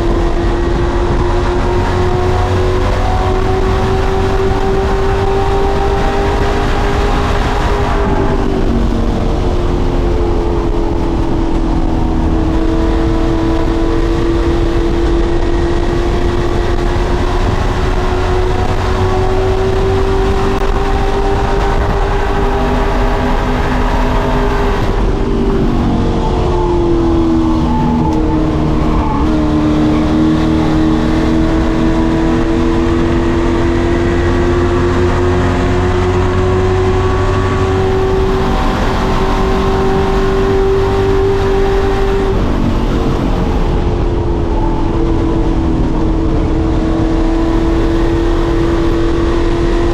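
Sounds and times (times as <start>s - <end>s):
racing truck engines running hard: 0.0s - 49.9s.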